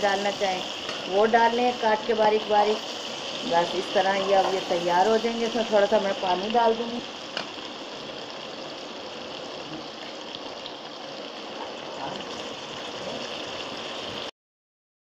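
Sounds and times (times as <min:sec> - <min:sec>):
potatoes sizzling in oil: 0:00.0 - 0:14.3
water pouring into hot oil: 0:00.0 - 0:14.3.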